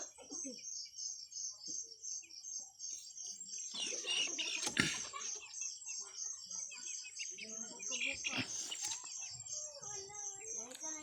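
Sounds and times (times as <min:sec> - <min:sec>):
chickens cheeping: 0:00.0 - 0:11.0.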